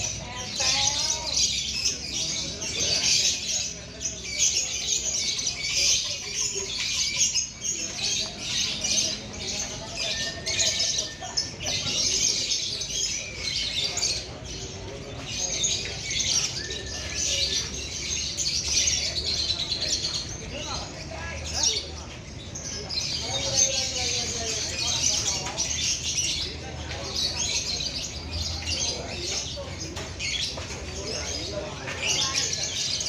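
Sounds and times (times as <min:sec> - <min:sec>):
lovebirds trilling chatter: 0:00.0 - 0:33.0.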